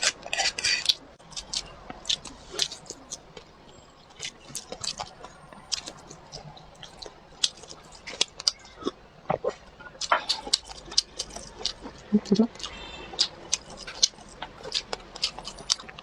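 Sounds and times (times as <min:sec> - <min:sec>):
chewing and biting: 0:00.0 - 0:16.0
mouth clicks and smacks: 0:00.0 - 0:16.0
wet squishy mouth sounds: 0:00.0 - 0:16.0.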